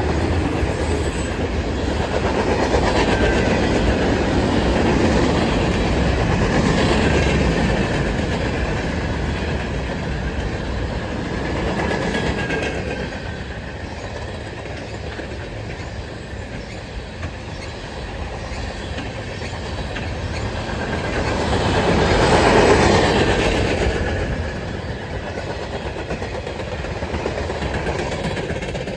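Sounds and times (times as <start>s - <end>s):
train wheels clacking on rail joints: 0.0s - 28.9s.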